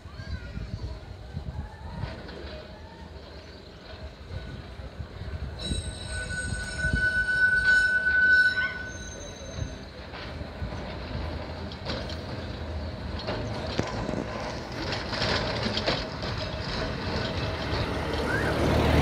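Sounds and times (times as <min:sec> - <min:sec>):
tram rumbling along track: 0:00.0 - 0:19.0
wheels squealing against rails: 0:00.0 - 0:19.0.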